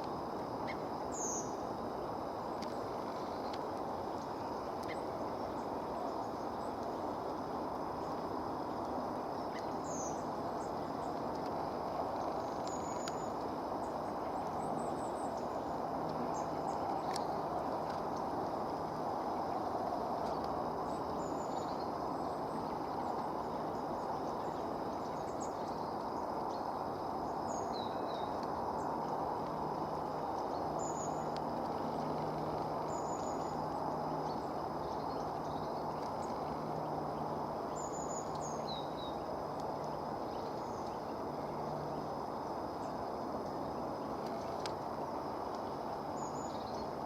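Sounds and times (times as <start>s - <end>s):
steady background noise: 0.0s - 47.0s.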